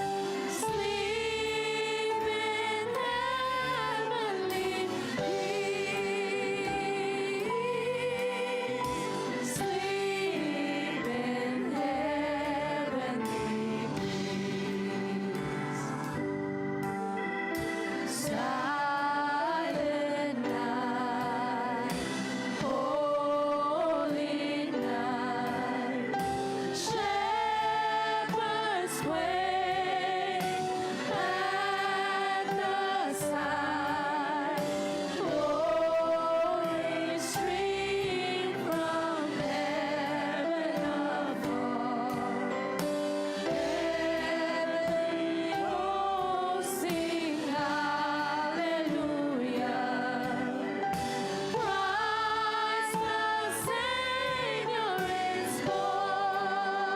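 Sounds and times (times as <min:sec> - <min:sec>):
keyboard chords: 0:00.0 - 0:56.9
voices singing worship song: 0:00.0 - 0:56.9.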